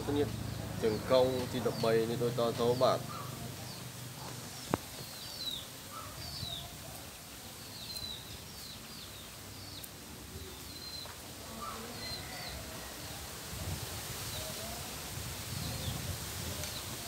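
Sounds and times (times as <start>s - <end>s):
low outdoor background noise: 0.0s - 17.0s
small birds chirping: 0.0s - 17.0s.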